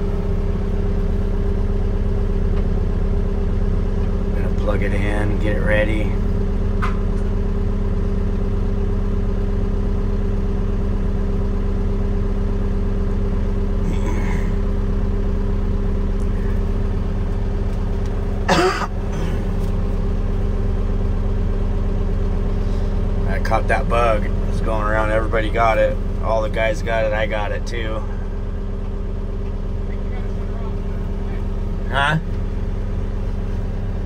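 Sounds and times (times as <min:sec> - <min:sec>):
machine engine idling: 0:00.0 - 0:34.0.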